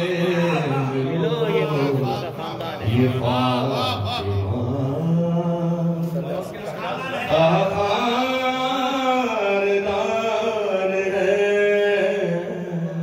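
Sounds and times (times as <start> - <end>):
man singing a chant: 0.0 - 6.5, 7.1 - 13.0.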